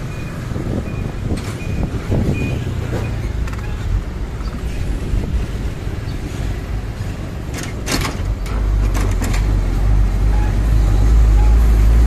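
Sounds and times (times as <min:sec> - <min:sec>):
traffic engine and road noise: 0:00.0 - 0:12.0
wind rumble on microphone: 0:00.0 - 0:12.0.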